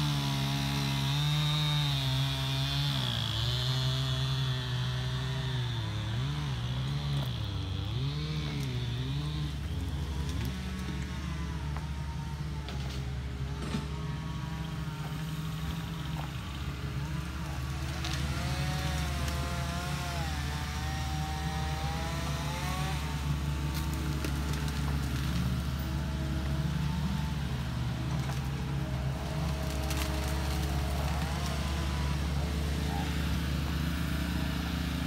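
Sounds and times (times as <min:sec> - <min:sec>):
diesel loader engine droning: 0:00.0 - 0:35.0.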